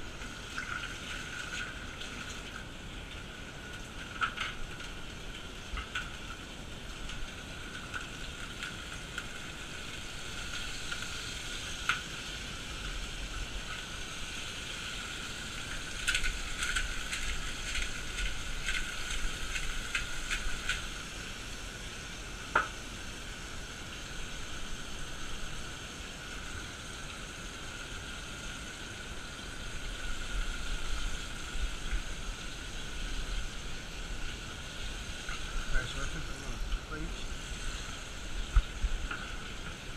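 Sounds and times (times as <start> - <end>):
crackles and clicks: 0.0 - 39.9
fish sizzling in a frying pan: 0.0 - 39.9.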